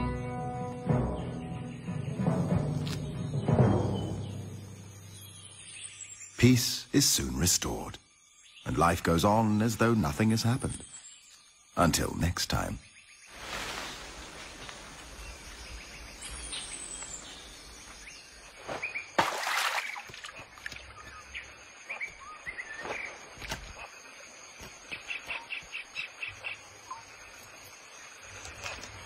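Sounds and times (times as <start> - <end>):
birds chirping and calling: 0.8 - 24.0, 24.6 - 27.4.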